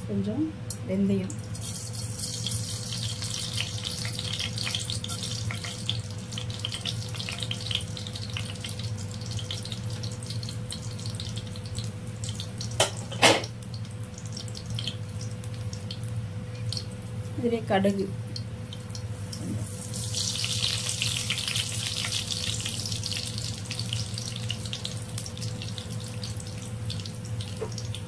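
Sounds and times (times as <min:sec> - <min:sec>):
seeds sizzling in hot oil: 0:01.3 - 0:28.0.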